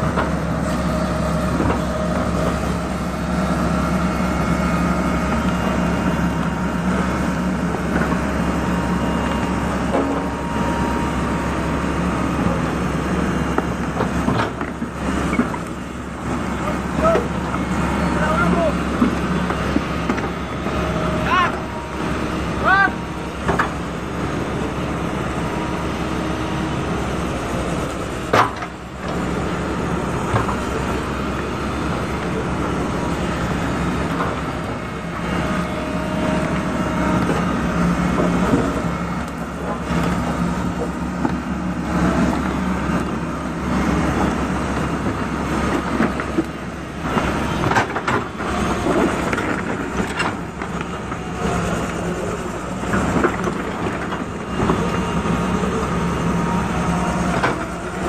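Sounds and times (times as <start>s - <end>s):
diesel engines running under load: 0.0s - 58.0s.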